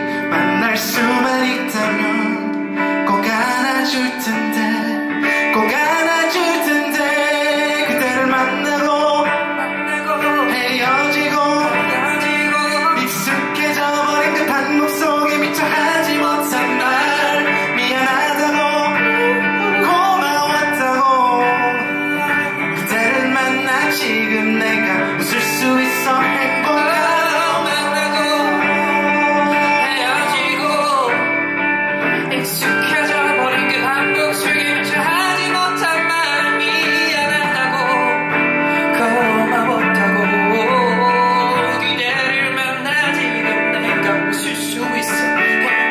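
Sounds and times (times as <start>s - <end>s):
guitar accompaniment: 0.0s - 45.9s
man singing a ballad: 0.0s - 45.9s.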